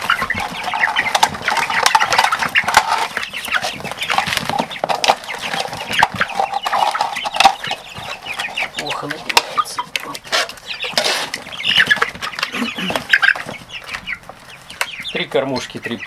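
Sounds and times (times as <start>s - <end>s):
plastic feeders clicking: 0.0s - 13.6s
young chickens cheeping: 0.0s - 16.0s.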